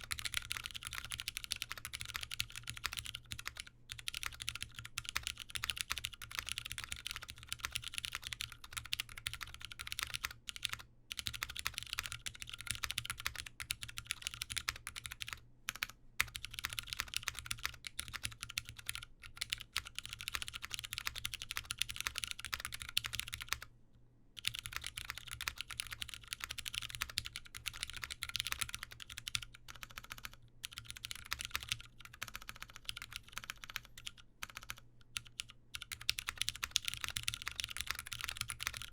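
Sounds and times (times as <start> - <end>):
fast typing on mechanical keyboard: 0.0 - 23.7, 24.4 - 38.9.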